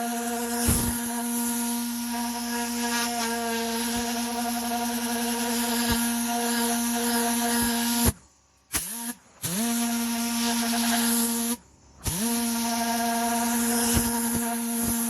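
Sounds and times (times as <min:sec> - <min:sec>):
electric motor tool humming: 0:00.0 - 0:15.0.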